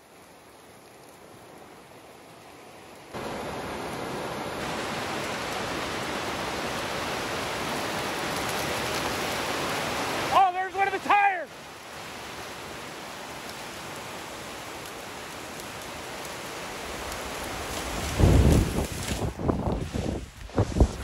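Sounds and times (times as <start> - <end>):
debris flow rushing down creek: 0.0 - 21.0.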